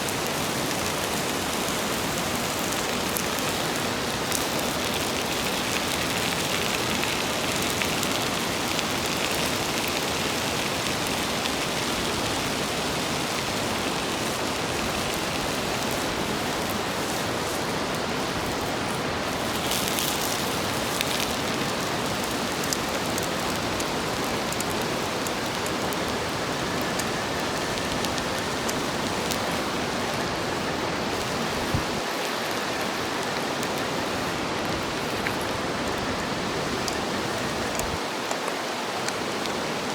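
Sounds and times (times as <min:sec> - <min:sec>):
campfire pops and crackles: 0:00.0 - 0:39.9
food sizzling on griddle: 0:00.0 - 0:39.9.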